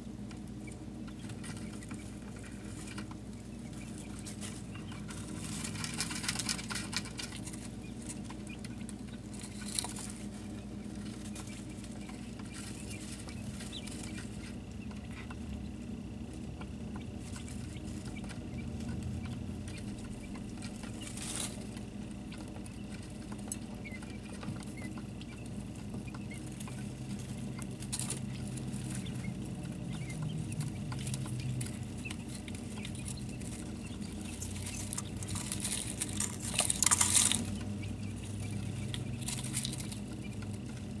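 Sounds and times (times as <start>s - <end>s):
chicks pattering and scratching: 0.0s - 41.0s
chicks peeping: 0.0s - 41.0s
steady low hum: 0.0s - 41.0s.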